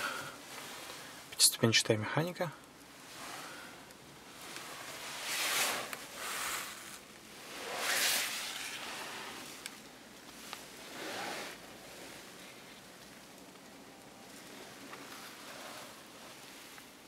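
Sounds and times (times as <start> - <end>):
camera and clothing rustling: 2.6 - 17.0.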